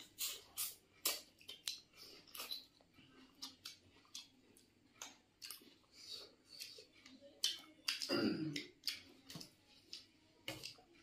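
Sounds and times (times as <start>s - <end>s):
chewing and mouth smacking: 0.0s - 11.0s.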